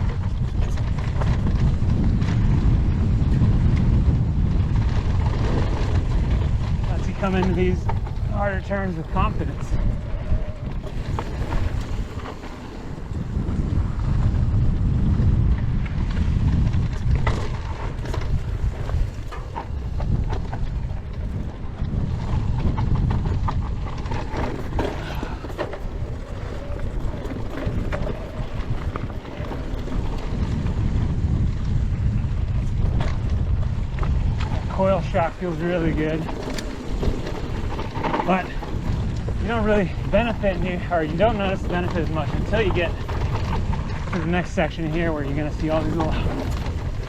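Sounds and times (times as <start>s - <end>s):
bike rattling clicks and knocks: 0.0s - 47.0s
tyres running over dirt: 0.0s - 47.0s
wind buffeting microphone: 0.0s - 47.0s.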